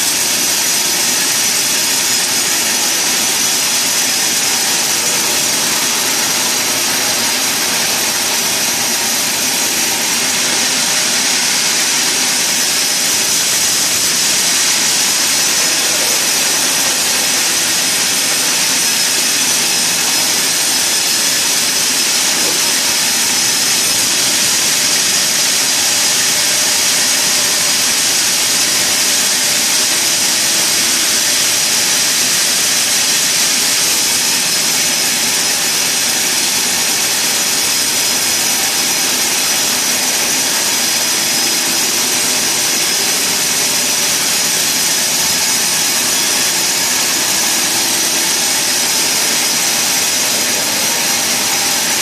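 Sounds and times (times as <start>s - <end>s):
sawmill saw running: 0.0s - 52.0s.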